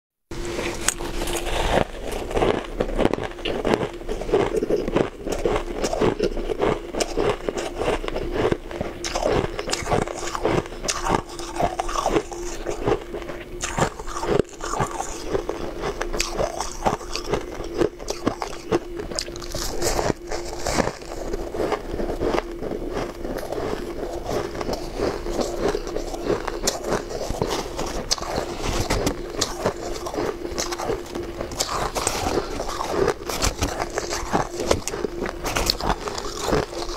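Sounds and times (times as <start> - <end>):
ice crunching while chewed: 0.4 - 36.9.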